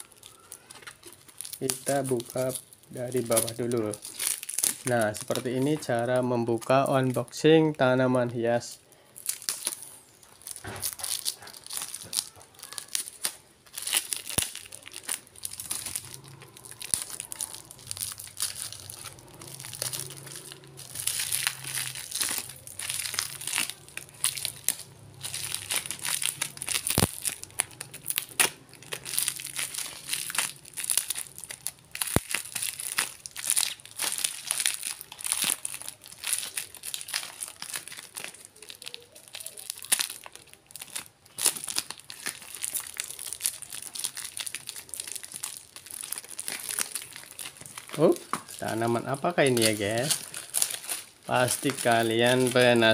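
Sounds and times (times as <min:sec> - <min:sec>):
tape crinkling and tearing: 0:00.0 - 0:52.9.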